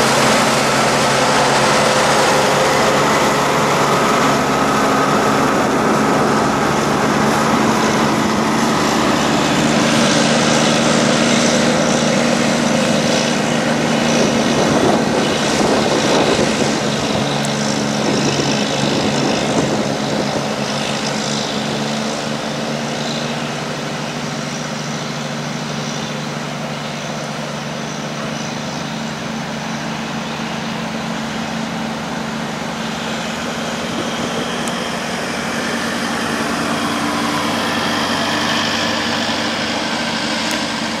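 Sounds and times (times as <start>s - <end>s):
heavy diesel engines under load: 0.0s - 41.0s.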